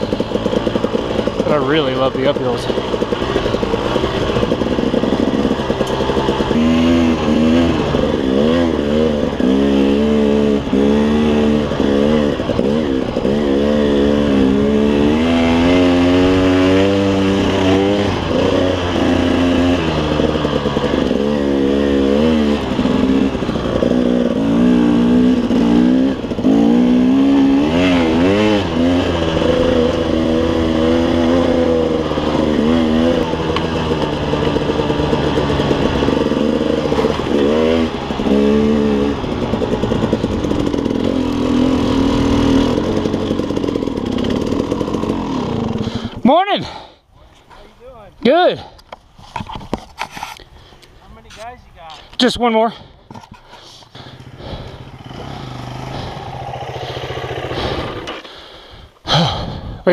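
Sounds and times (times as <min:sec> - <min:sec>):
dirt bike engine revving: 0:00.0 - 0:48.8, 0:51.4 - 0:59.9.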